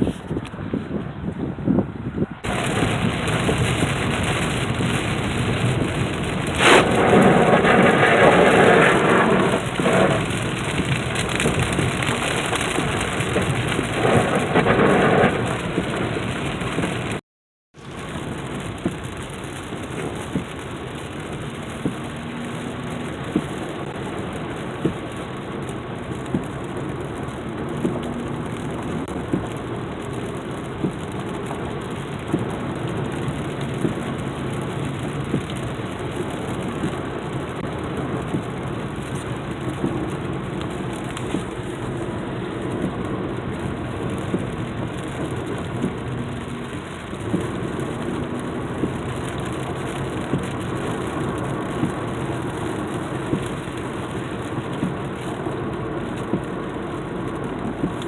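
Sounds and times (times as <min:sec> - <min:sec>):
heavy rain: 0:02.2 - 0:17.2, 0:17.8 - 0:58.0
raindrop taps: 0:02.4 - 0:17.2, 0:17.9 - 0:58.0.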